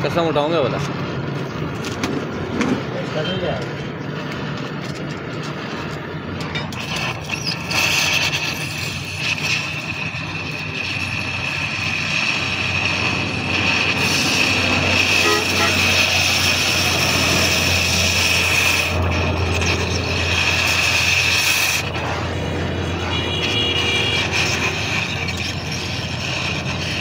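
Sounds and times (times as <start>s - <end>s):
cutting torch hissing: 0.0s - 27.0s.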